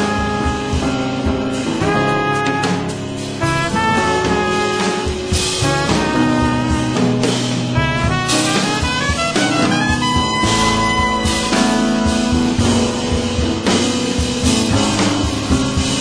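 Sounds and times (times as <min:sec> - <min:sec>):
jazz tune with horns: 0:00.0 - 0:16.0.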